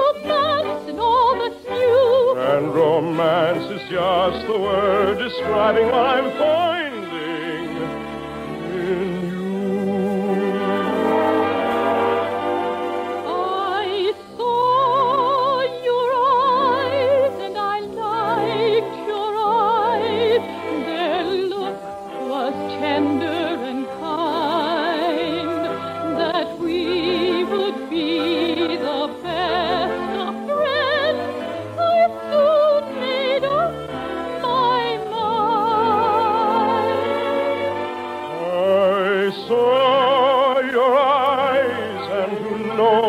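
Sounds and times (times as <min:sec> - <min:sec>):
operetta singing with orchestra: 0:00.0 - 0:43.0.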